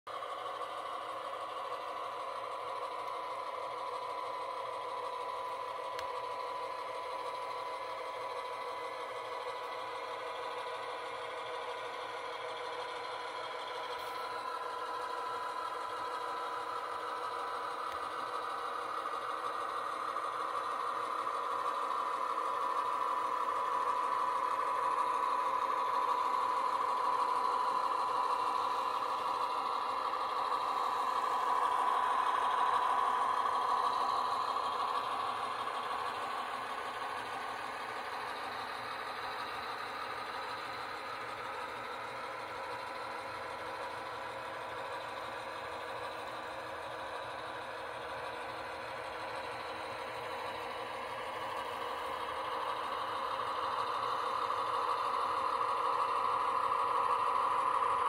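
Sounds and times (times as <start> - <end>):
high steady whine: 0.1 - 58.0
model train hum: 0.1 - 58.0.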